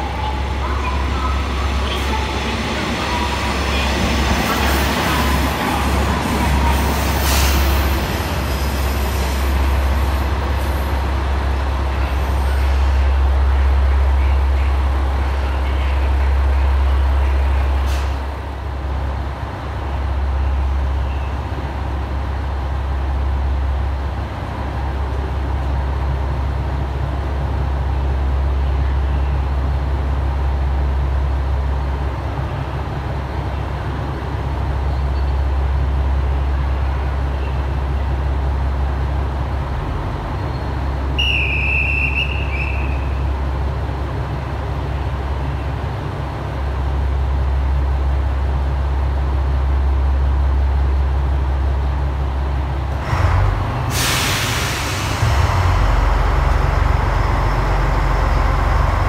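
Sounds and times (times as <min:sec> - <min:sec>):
diesel railcar engine idling: 0:00.0 - 0:59.0
diesel railcar pulling away: 0:00.0 - 0:59.0.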